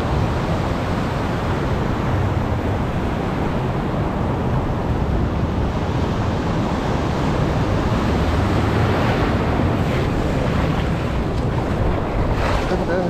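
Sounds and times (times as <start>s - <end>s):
heavy surf washing ashore: 0.0s - 13.0s
wind buffeting microphone: 0.0s - 13.0s.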